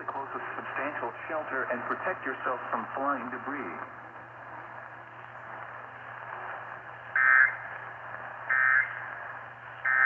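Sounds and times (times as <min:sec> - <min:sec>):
radio hissing: 0:00.0 - 0:10.0.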